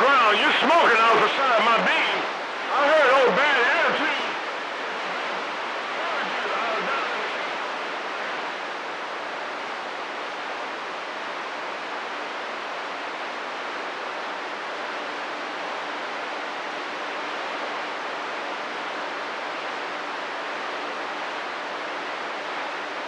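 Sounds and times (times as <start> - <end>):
faint steady hum: 0.0 - 23.0
radio static hiss: 0.0 - 23.0.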